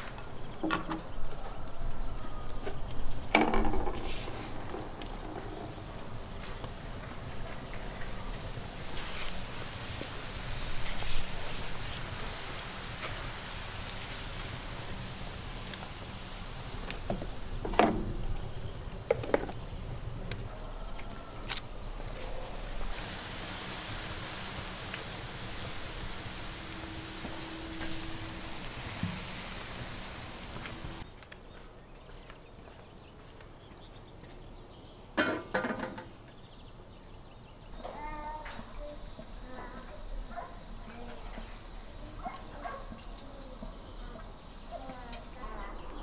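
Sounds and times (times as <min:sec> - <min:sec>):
faint steady hiss: 0:00.0 - 0:31.4, 0:37.4 - 0:46.0
wood fire crackling: 0:00.0 - 0:35.1, 0:37.7 - 0:46.0.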